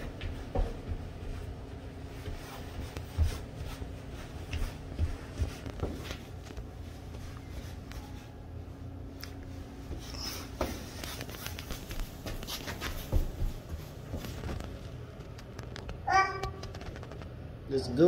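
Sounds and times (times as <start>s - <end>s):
soft footsteps on carpet: 0.0s - 15.6s
steady low hum: 0.0s - 18.0s.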